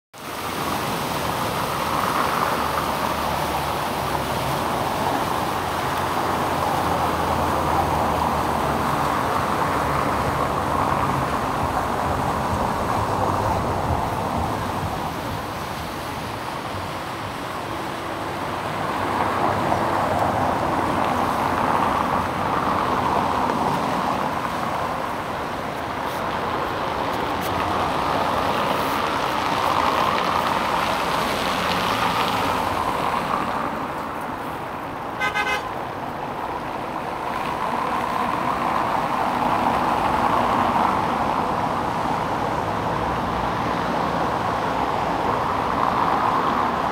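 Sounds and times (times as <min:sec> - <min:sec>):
road traffic rushing: 0:00.2 - 0:46.9.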